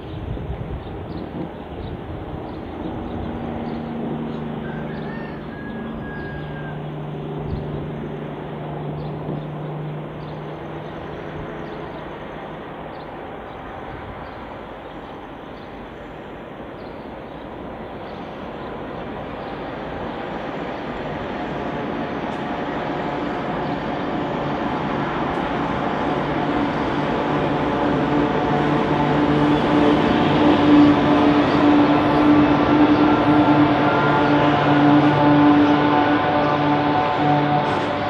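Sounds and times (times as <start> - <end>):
diesel locomotive engine drone: 0.0 - 38.0
train wheels rumbling on rails: 0.0 - 38.0.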